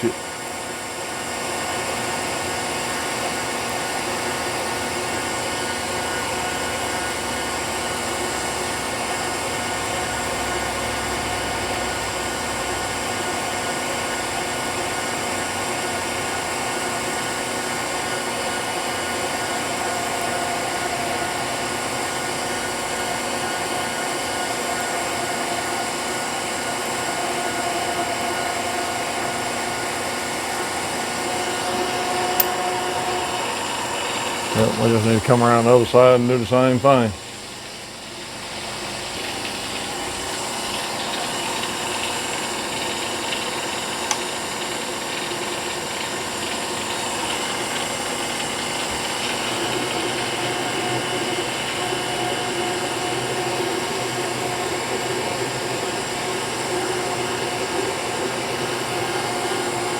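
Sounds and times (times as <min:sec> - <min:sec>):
milling machine cutting metal: 0:00.0 - 0:37.7, 0:39.1 - 0:59.9.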